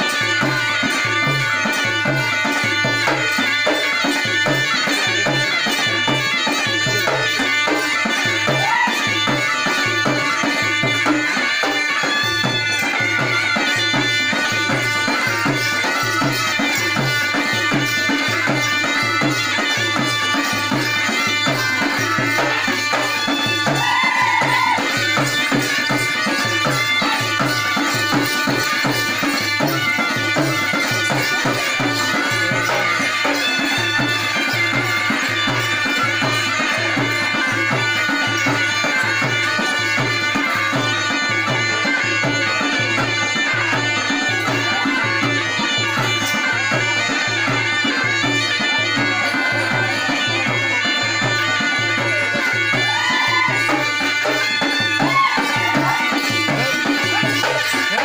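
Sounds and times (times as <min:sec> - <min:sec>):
drums beating: 0:00.0 - 0:58.0.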